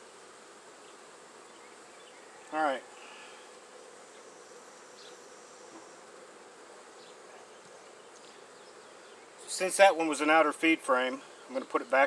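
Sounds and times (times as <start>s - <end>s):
honey bees humming: 0.0s - 12.0s.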